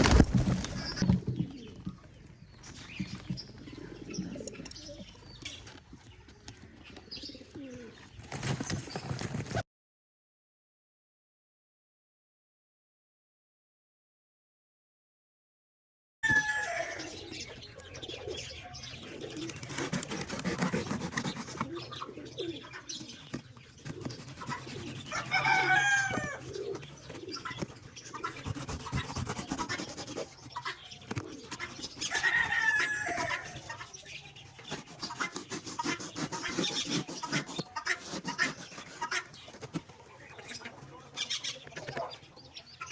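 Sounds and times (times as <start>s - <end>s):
birds calling: 0.0s - 9.6s, 16.3s - 42.9s.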